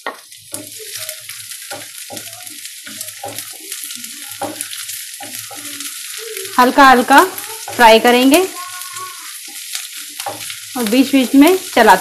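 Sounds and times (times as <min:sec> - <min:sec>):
cabbage sizzling in oil: 0:00.0 - 0:12.0.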